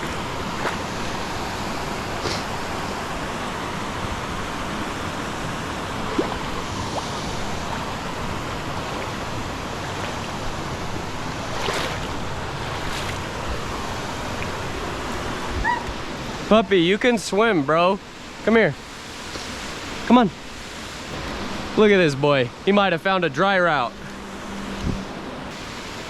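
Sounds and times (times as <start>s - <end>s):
river water over rocks: 0.0s - 26.0s.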